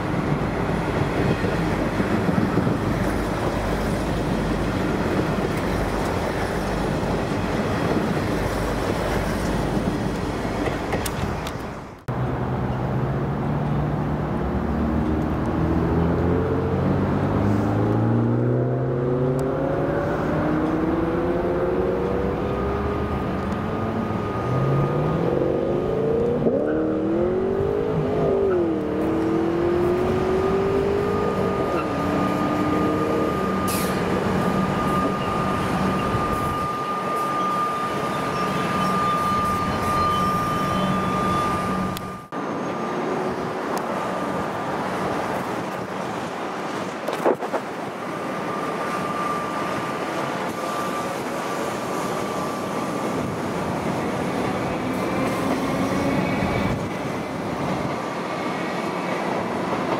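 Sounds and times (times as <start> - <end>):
diesel railcar rumbling past: 0.0 - 59.9.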